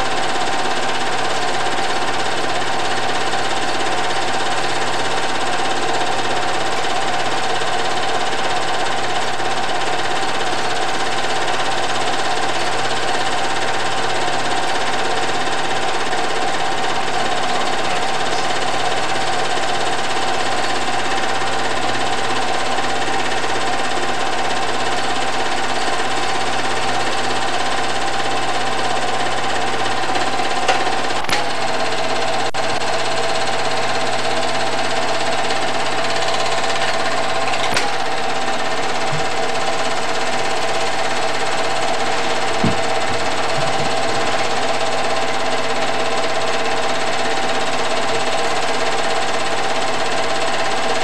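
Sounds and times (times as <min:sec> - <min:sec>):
film projector whirring: 0:00.0 - 0:51.0.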